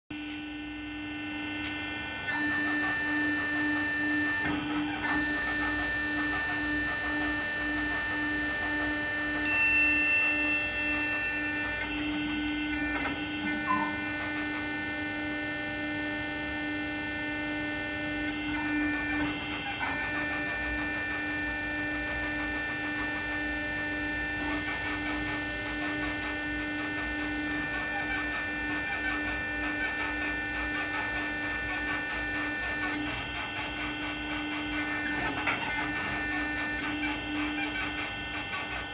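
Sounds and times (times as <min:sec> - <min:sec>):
hydraulic pump motor humming: 0:00.1 - 0:38.9.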